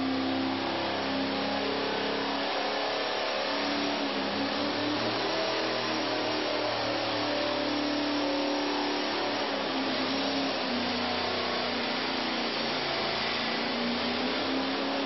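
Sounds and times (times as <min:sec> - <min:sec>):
car engine running on dynamometer: 0:00.0 - 0:15.0.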